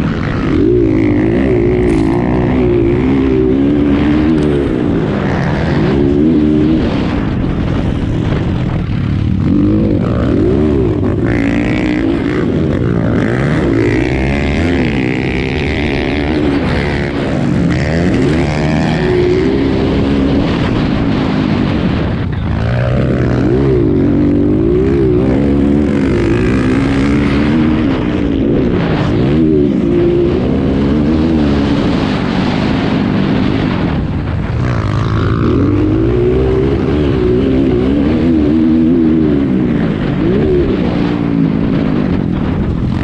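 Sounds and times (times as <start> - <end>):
dirt bike engines revving: 0.0 - 43.0.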